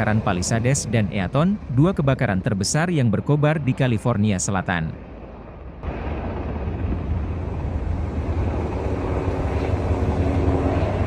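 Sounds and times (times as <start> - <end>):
aircraft engine noise: 0.0 - 11.0.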